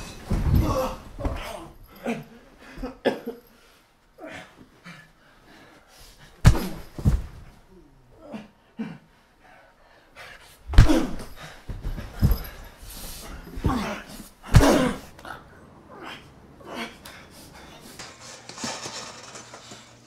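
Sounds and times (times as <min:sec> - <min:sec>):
grunts and breaths: 0:00.0 - 0:18.2.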